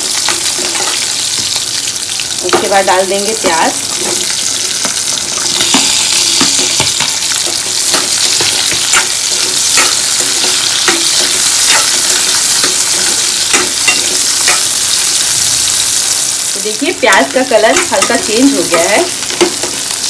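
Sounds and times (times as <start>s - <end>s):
steel spoon scraping a pan: 0.0s - 1.6s, 3.4s - 16.3s, 17.1s - 20.0s
onion sizzling in hot oil: 0.0s - 20.0s.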